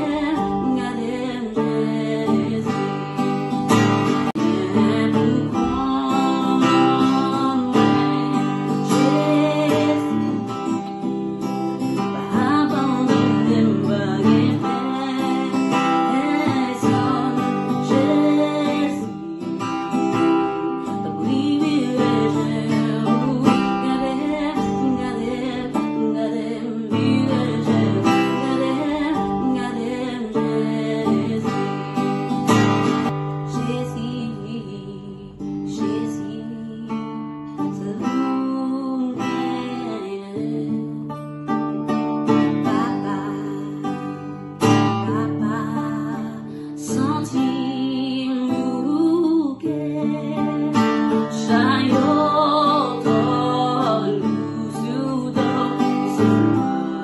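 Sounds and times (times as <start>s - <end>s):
acoustic guitar strumming: 0.0s - 57.0s
woman singing: 0.0s - 57.0s.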